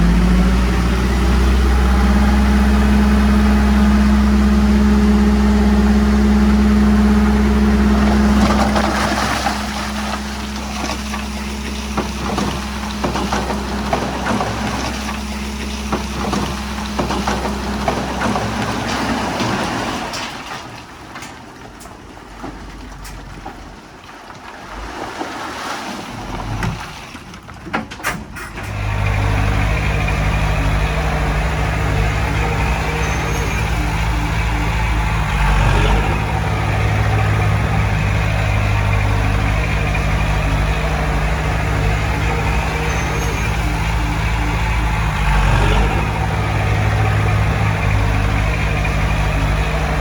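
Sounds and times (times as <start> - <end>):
heavy diesel engine rumbling: 0.0 - 24.0, 26.2 - 50.0.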